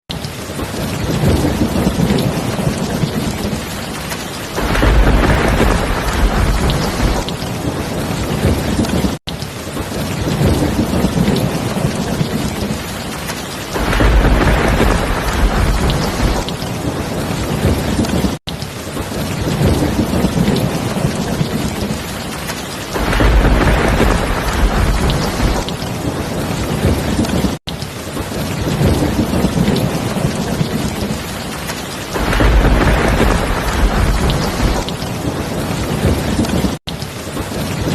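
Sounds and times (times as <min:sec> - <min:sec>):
heavy rain: 0:00.1 - 0:37.9
thunder rumbling: 0:00.5 - 0:18.4, 0:19.4 - 0:27.6, 0:28.6 - 0:36.8.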